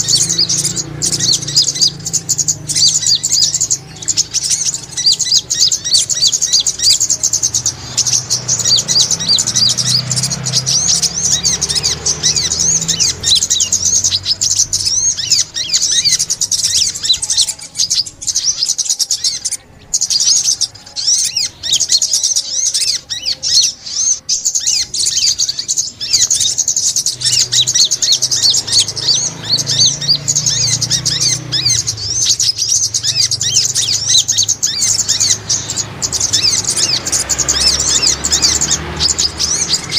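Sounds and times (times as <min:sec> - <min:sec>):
small bird chirping fast: 0:00.0 - 0:39.9.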